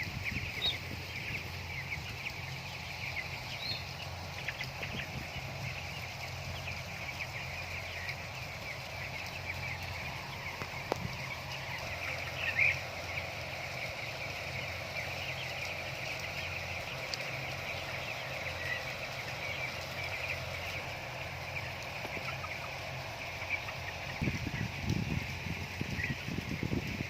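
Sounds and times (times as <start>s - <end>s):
chickens peeping and chirping: 0.0s - 27.0s.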